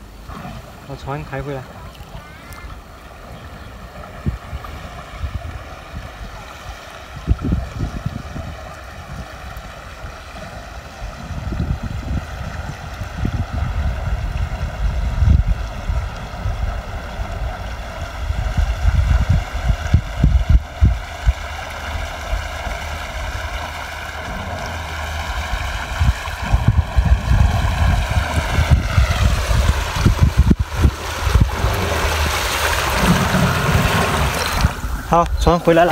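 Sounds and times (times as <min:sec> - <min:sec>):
wind buffeting microphone: 0:00.9 - 0:35.9.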